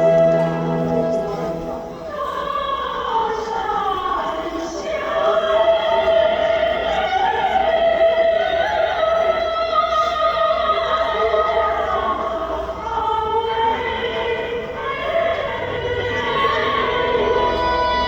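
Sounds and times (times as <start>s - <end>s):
music with sustained singing: 0.0s - 18.0s.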